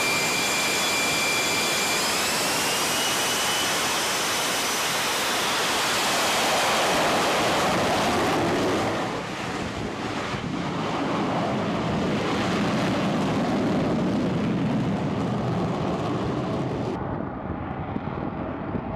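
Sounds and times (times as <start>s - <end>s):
jet engine roaring at takeoff: 0.0s - 18.9s.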